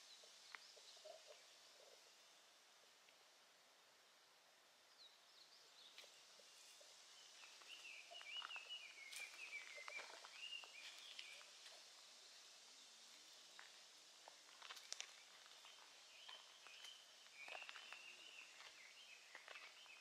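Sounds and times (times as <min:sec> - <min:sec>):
outdoor hiss: 0:00.0 - 0:20.0.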